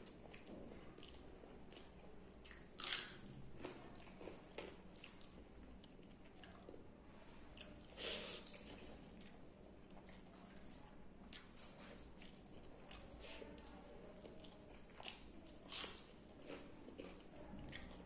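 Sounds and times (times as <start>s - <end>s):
person chewing food: 0.0s - 6.9s, 7.5s - 10.6s, 11.3s - 18.0s.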